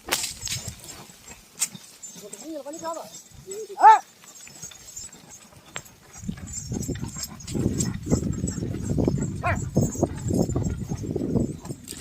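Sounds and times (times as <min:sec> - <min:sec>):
hooves thudding on ground: 0:00.0 - 0:12.0.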